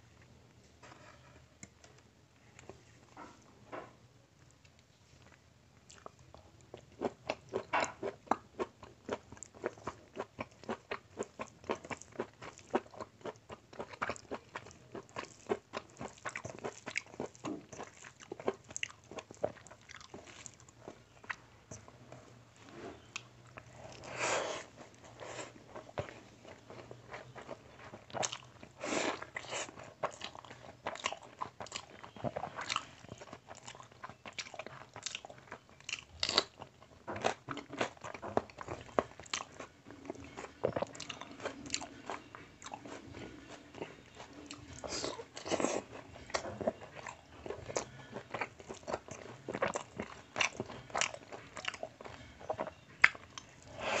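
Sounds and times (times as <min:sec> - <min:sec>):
person chewing and lip smacking: 0:04.4 - 0:22.0, 0:23.1 - 0:53.7.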